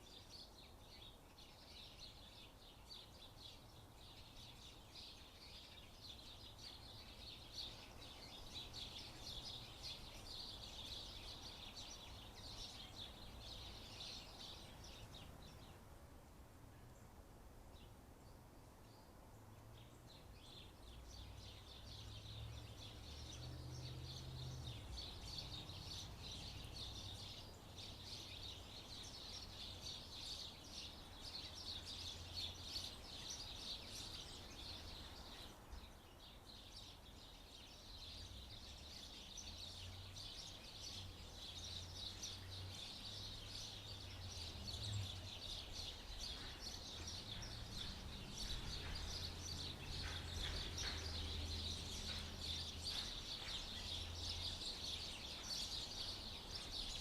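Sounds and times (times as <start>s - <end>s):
small birds chirping: 0.0s - 15.9s, 17.7s - 57.0s.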